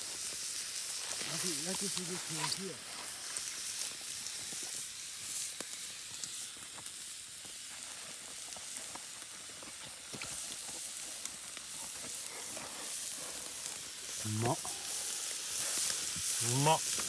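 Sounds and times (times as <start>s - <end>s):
fire pops and crackles: 0.0s - 17.0s
meat sizzling on a grill: 0.0s - 17.0s.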